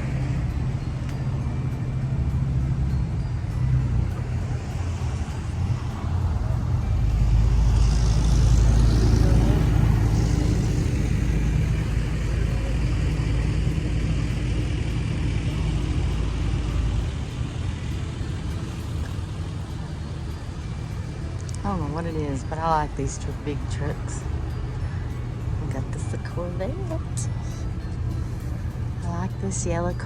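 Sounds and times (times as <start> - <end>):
street traffic: 0.0 - 30.0
vehicle engine rumbling: 0.0 - 30.0.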